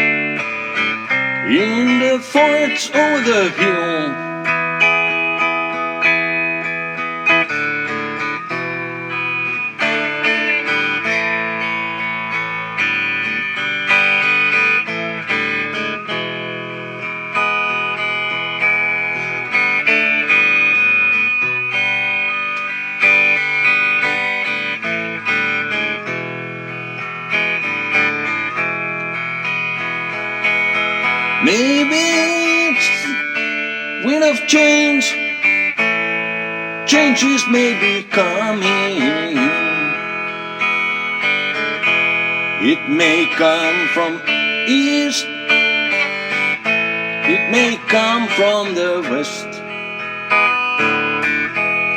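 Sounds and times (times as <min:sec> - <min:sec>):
instrumental guitar music: 0:00.0 - 0:51.9.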